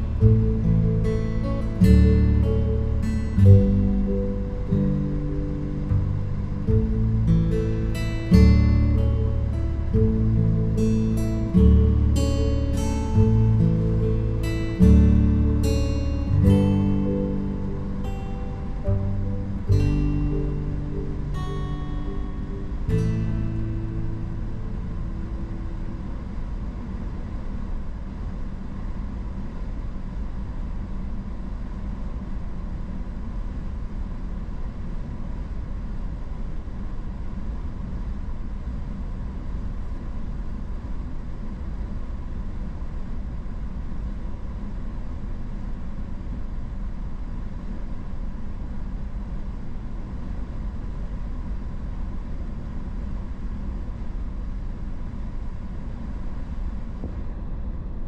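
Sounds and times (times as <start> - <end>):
car road and engine noise: 0.0 - 58.0
faint steady whine: 0.0 - 58.0.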